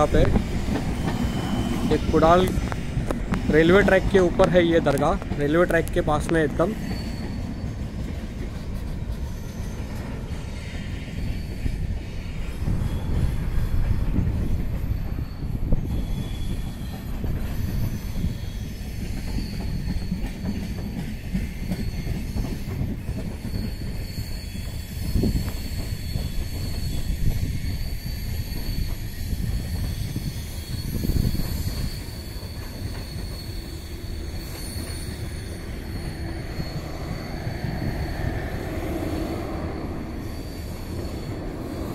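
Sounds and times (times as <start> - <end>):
high wheel squeal: 0.0 - 41.9
train wheels rumbling on rails: 0.0 - 41.9.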